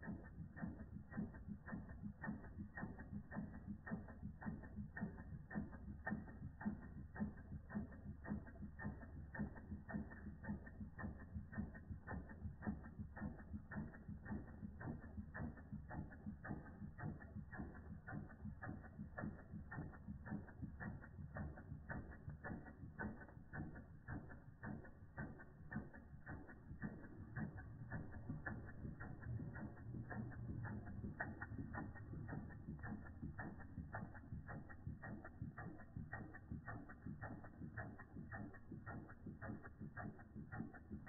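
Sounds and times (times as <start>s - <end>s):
toy steam engine ticking: 0.0s - 41.0s.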